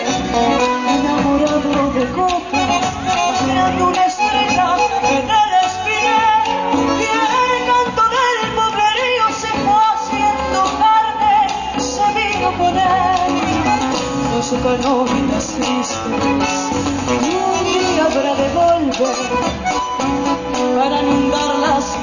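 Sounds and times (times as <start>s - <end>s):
acoustic guitars: 0.0s - 22.0s.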